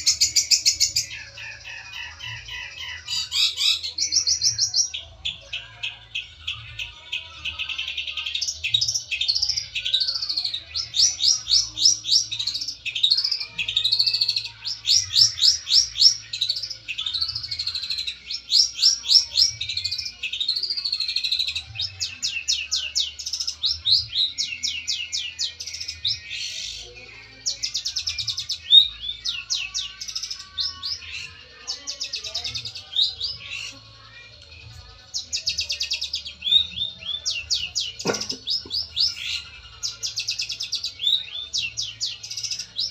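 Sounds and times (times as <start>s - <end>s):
shrike singing: 0.0s - 26.8s, 27.4s - 42.9s.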